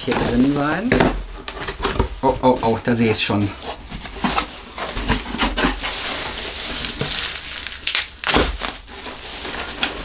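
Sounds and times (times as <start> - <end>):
bubble wrap and plastic crinkling: 0.0 - 10.0.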